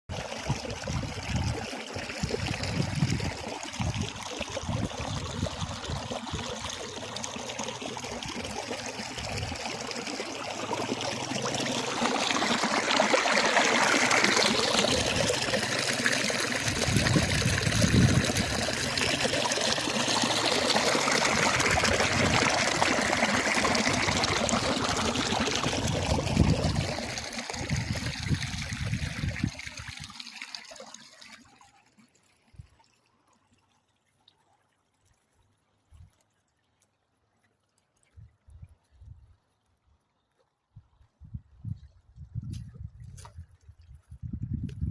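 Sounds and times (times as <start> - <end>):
stream water trickling: 0.1 - 44.9.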